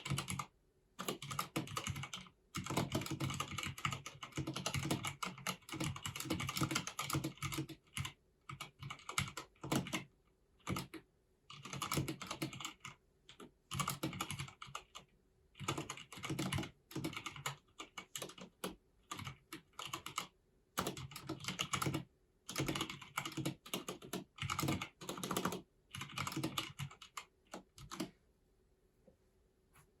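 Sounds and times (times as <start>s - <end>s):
mechanical keyboard typing: 0.0s - 28.2s.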